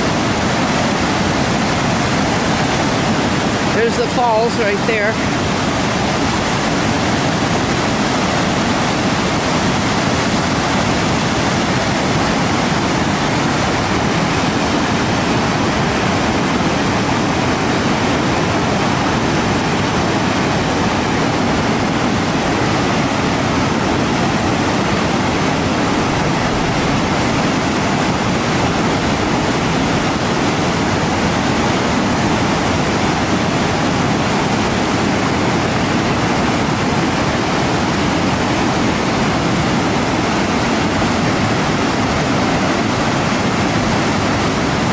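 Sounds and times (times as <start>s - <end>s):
rush of whitewater: 0.0s - 44.9s.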